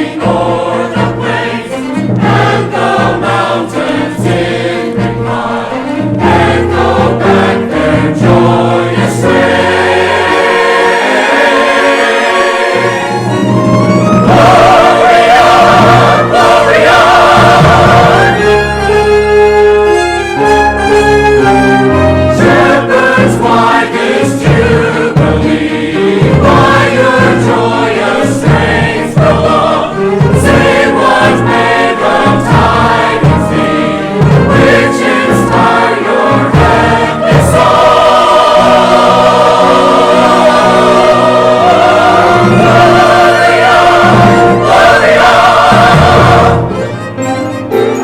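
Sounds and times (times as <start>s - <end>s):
choir singing with orchestra: 0.0s - 48.0s.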